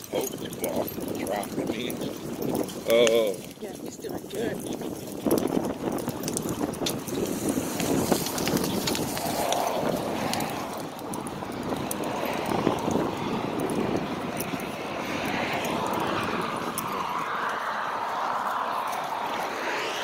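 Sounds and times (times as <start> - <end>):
cars passing on road: 0.0 - 20.0
cart rolling across grass: 0.0 - 20.0.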